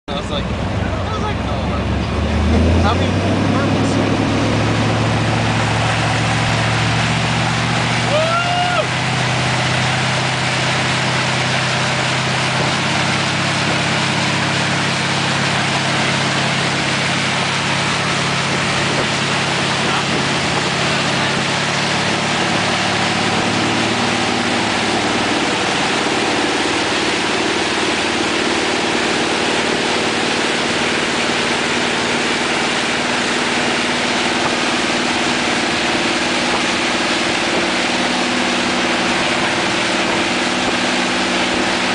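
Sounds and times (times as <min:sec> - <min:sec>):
motorboat engine running: 0:00.1 - 0:41.9
rush of wake water: 0:00.1 - 0:41.9
wind: 0:00.1 - 0:41.9.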